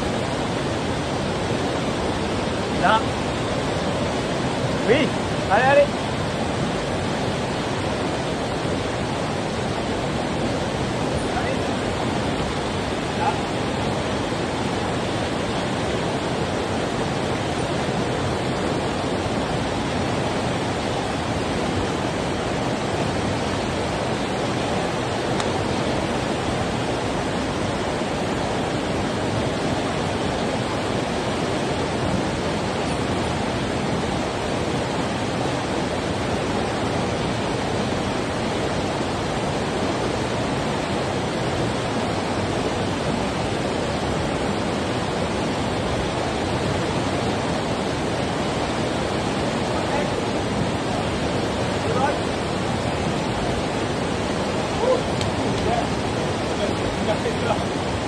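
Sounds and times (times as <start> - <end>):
fast mountain stream rushing: 0.0 - 58.0.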